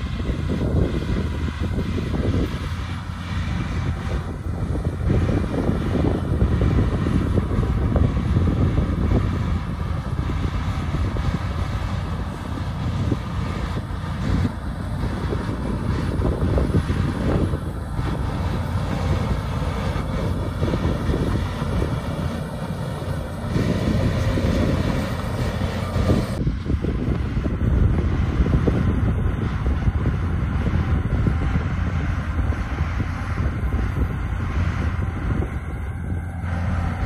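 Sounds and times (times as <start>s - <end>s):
bulldozer diesel engine under load: 0.0s - 37.0s.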